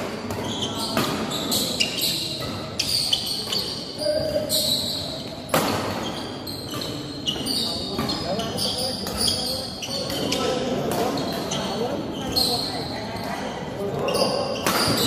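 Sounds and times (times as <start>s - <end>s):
rackets hitting shuttlecock: 0.0s - 12.4s, 13.9s - 15.0s
shoes squeaking on court floor: 0.0s - 15.0s.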